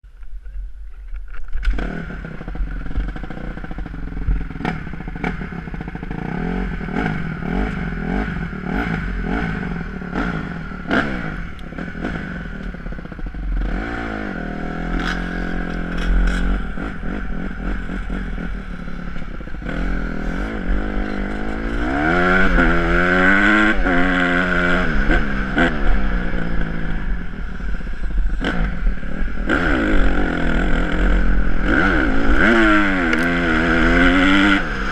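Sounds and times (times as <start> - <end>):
motorcycle engine revving: 1.2 - 34.9.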